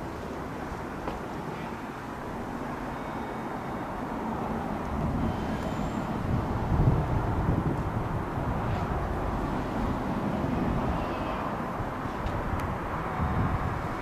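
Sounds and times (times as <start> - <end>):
low vehicle rumble: 0.0 - 14.0
outdoor background noise: 0.0 - 14.0.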